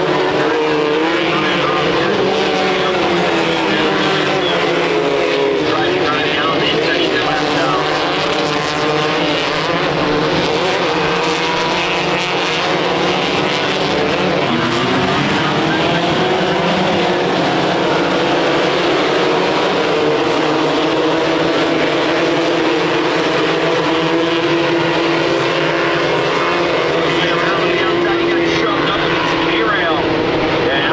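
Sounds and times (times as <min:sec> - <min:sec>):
race vehicle engines revving: 0:00.0 - 0:30.9.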